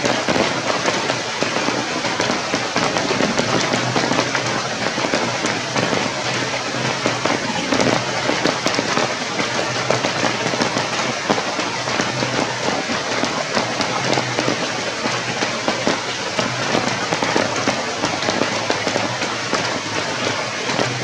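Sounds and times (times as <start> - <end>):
rain pattering on leaves: 0.0 - 21.0.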